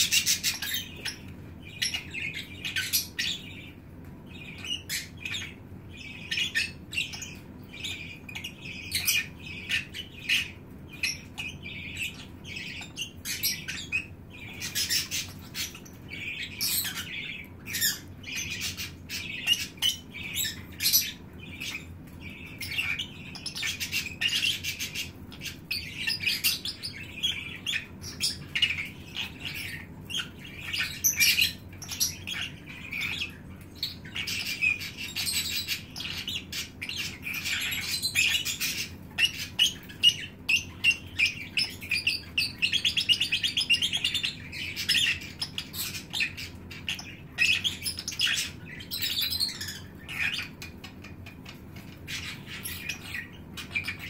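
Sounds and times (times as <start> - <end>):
lovebirds chattering: 0.0 - 54.0.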